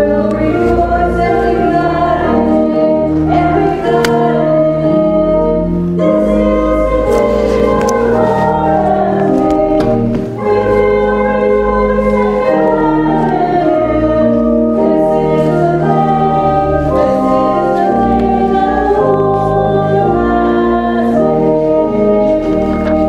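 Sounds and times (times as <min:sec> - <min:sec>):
choir singing a hymn: 0:00.0 - 0:23.0
organ chords: 0:00.0 - 0:23.0.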